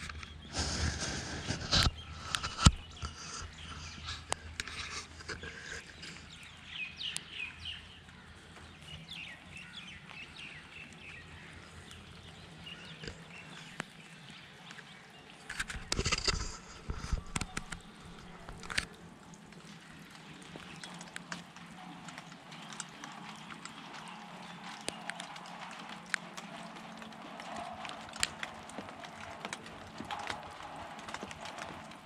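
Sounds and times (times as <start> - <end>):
birds chirping: 0.0 - 32.0
light rain patter: 0.0 - 32.0.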